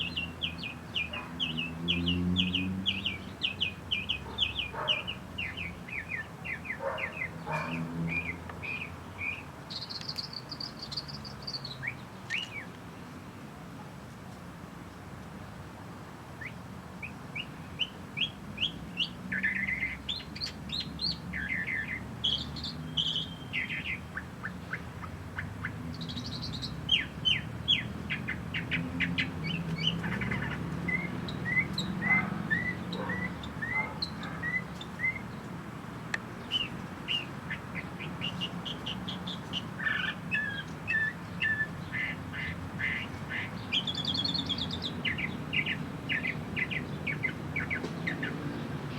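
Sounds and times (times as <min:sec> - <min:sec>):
small birds chirping: 0:00.0 - 0:13.4, 0:16.3 - 0:48.9.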